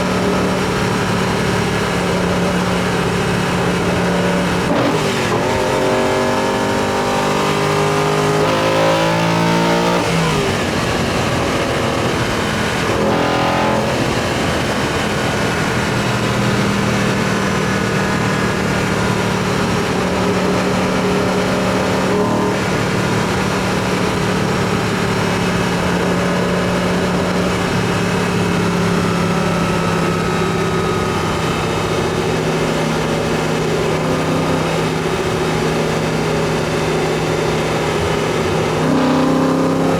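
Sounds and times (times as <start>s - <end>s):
car engine accelerating and cruising: 0.0s - 39.9s.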